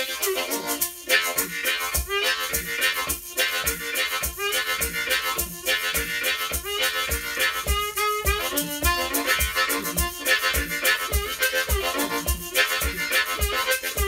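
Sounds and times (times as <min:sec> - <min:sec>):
harmonica chords: 0:00.0 - 0:14.0
beat of thumps and clicks: 0:01.4 - 0:14.0.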